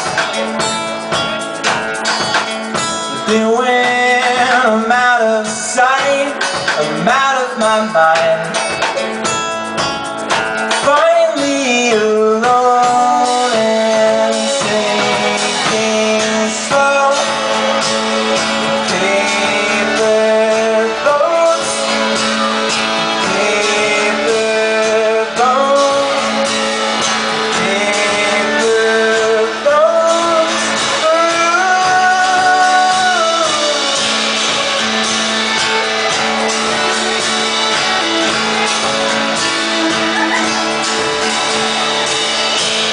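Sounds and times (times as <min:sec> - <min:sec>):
person singing: 0:00.0 - 0:09.5, 0:10.6 - 0:42.9
guitar: 0:00.0 - 0:42.9.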